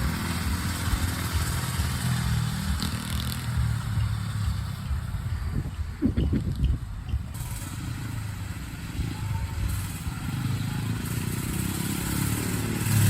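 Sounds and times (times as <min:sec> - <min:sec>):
small dirt bike engine running: 0:00.0 - 0:13.0.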